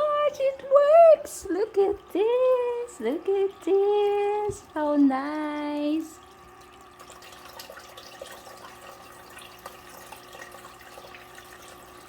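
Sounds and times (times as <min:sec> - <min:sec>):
small water drips: 0:00.0 - 0:12.0.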